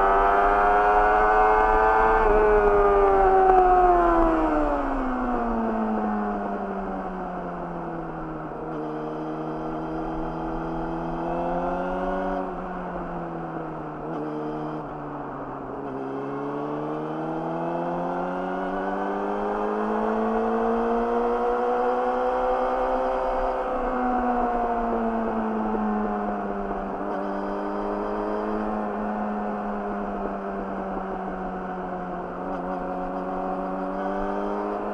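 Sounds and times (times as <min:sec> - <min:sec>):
motorcycle engine revving: 0:00.0 - 0:14.9, 0:15.7 - 0:34.9.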